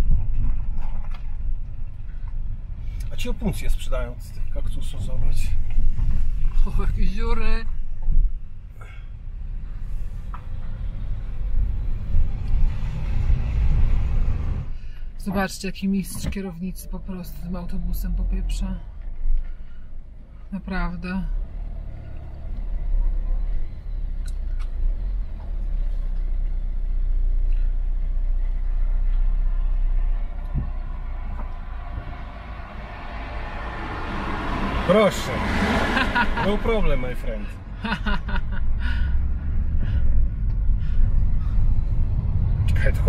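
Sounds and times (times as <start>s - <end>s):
car tyres and engine rumble: 0.0s - 43.0s.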